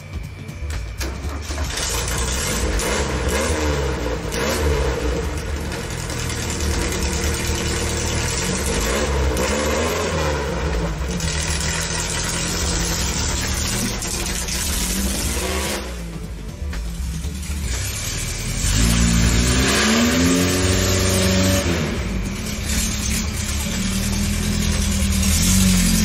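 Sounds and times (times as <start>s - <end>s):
engine revving: 1.0s - 26.0s.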